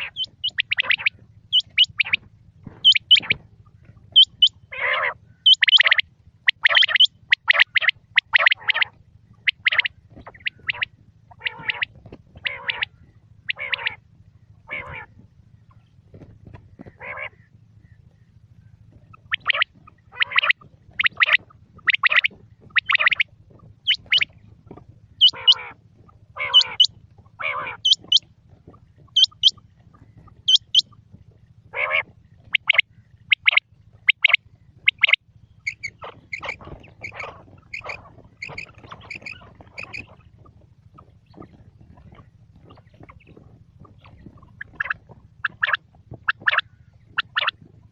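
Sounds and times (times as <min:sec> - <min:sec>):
quail calling: 0:00.0 - 0:47.9
steady low hum: 0:00.0 - 0:47.9.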